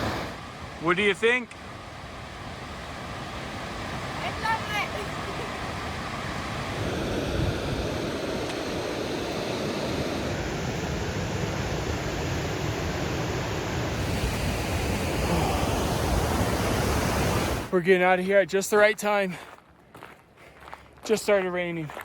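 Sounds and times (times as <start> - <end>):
falling water rushing: 0.0 - 17.7.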